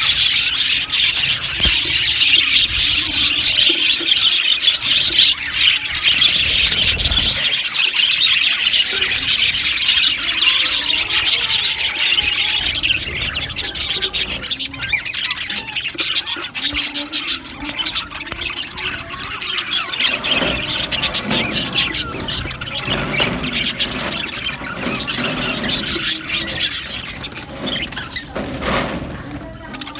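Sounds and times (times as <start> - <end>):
budgerigars chattering and chirping: 0.0 - 29.9.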